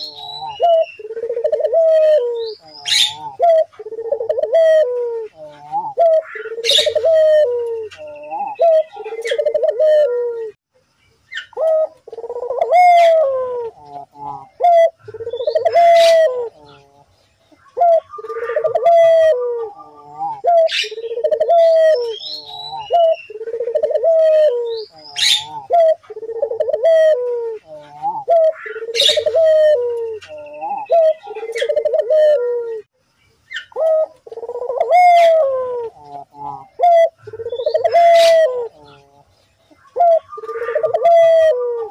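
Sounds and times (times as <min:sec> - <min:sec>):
dove cooing: 0:00.0 - 0:10.6, 0:11.3 - 0:32.9, 0:33.5 - 0:41.9
small birds chirping: 0:00.0 - 0:41.9.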